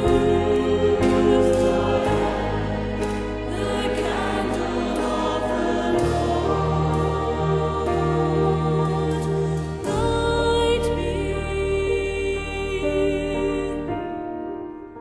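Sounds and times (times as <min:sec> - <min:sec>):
choir singing: 0:00.0 - 0:13.9
sustained instrumental accompaniment: 0:00.0 - 0:14.1.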